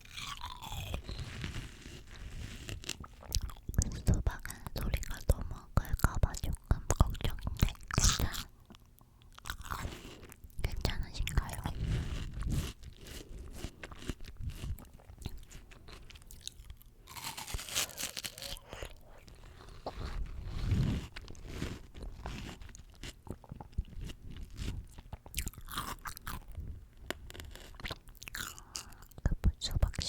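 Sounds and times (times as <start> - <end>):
chewing crisp fruit: 0.0 - 30.0.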